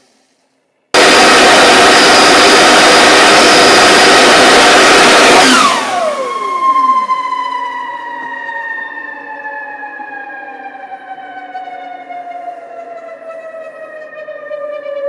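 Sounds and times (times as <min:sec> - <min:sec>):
turbine rotor whining down: 0:01.0 - 0:13.8.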